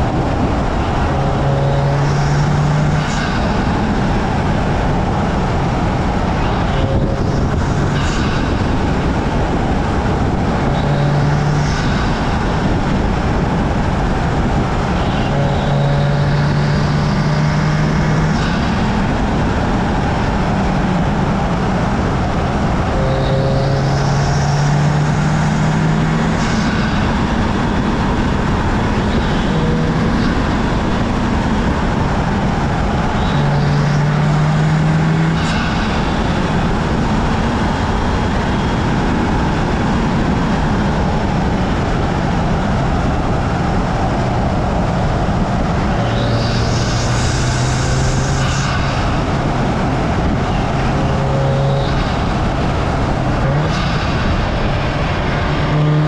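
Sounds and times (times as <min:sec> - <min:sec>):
car engine drone: 0:00.0 - 0:56.0
wind and tyre noise: 0:00.0 - 0:56.0.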